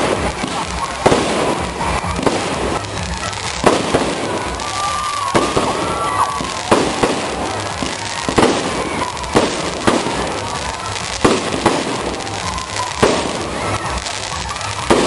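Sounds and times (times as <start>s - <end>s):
crackle of bursting shells: 0.0s - 15.0s
firework bangs: 0.0s - 15.0s.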